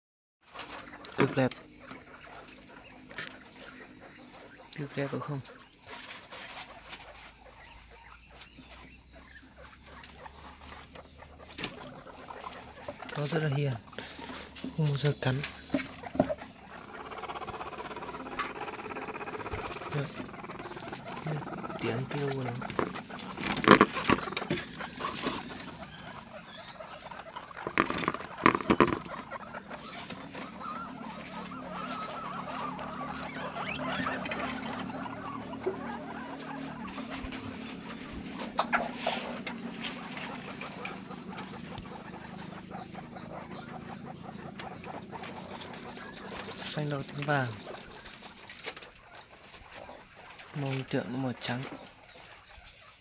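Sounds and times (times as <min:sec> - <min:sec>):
small ticks and rustles: 0:00.4 - 0:35.8, 0:36.4 - 0:53.0
guinea pigs feeding: 0:00.4 - 0:53.0.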